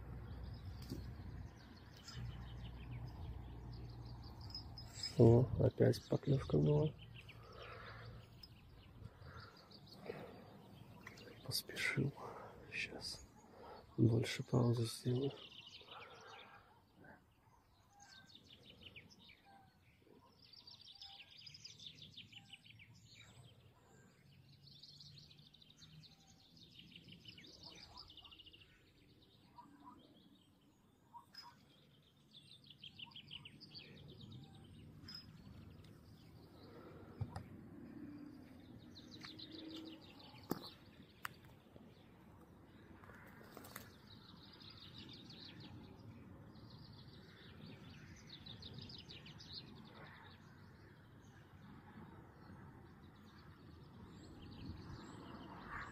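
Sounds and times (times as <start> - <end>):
songbirds trilling: 0.0 - 55.9.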